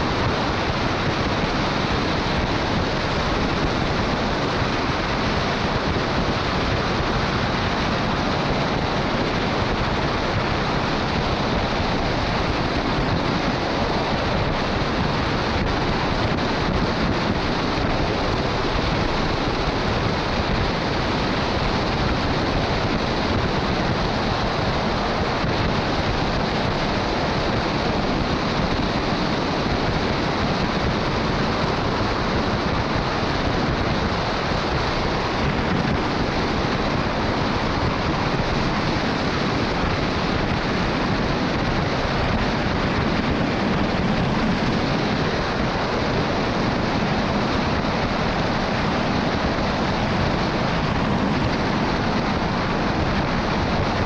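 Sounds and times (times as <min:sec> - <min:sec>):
tyres on wet road: 0:00.0 - 0:54.0
wind rushing over camera: 0:00.0 - 0:54.0.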